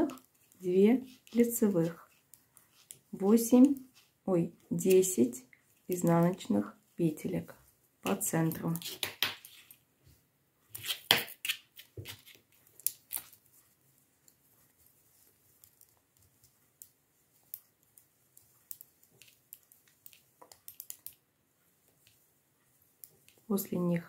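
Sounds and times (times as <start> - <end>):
knitting needles clicking: 0.0 - 6.7, 8.0 - 9.8, 12.3 - 22.2, 22.8 - 24.0
yarn rustling: 0.0 - 8.9, 12.0 - 24.0.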